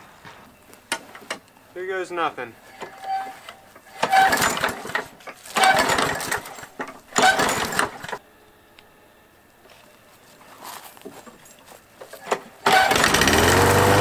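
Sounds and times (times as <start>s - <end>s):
lawn mower engine turning over: 0.0s - 1.5s, 2.4s - 8.2s, 9.6s - 14.0s.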